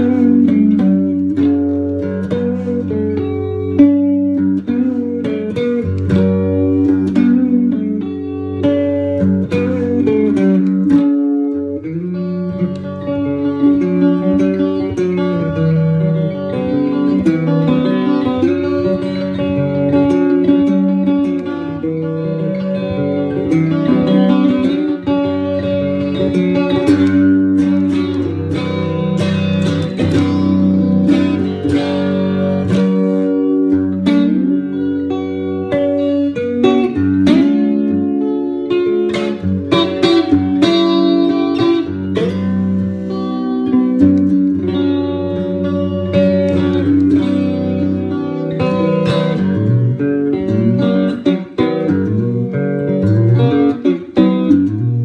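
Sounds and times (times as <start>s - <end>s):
electric guitar picked melody: 0.0s - 55.0s
guitar bass notes: 0.0s - 55.0s.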